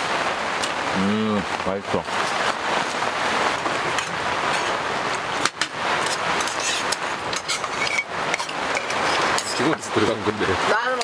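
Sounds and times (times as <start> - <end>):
heavy rain on tent fabric: 0.0 - 11.0.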